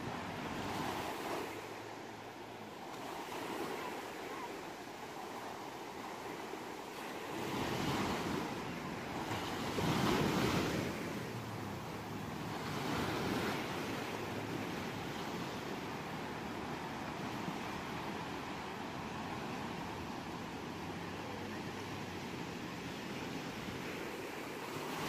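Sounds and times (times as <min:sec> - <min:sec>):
ocean waves breaking: 0:00.0 - 0:25.0.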